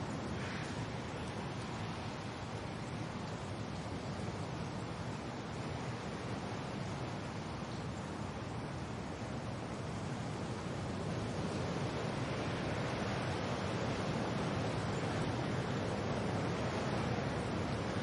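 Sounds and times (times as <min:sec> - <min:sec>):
wind and rain rushing: 0:00.0 - 0:18.0.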